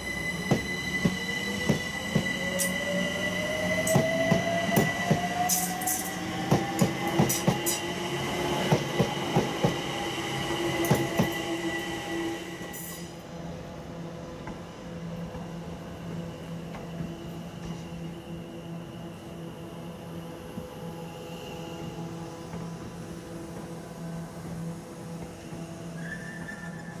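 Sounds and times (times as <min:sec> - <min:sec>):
train traction whine: 0:00.0 - 0:27.0.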